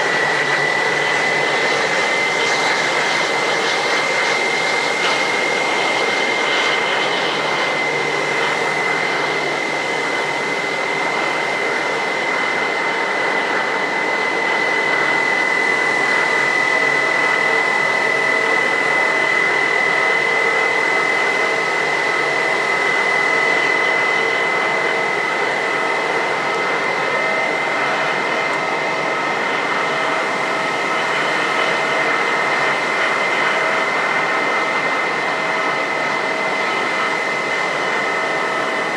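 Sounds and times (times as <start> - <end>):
jet engines idling whine: 0.0 - 38.9.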